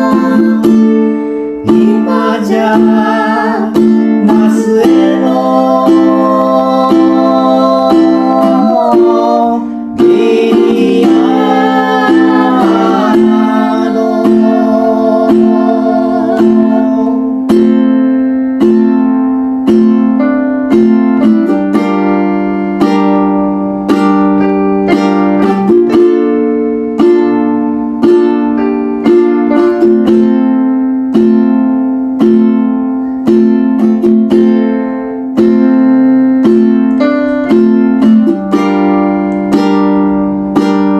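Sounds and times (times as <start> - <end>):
acoustic guitar-like plucked music: 0.0 - 40.9.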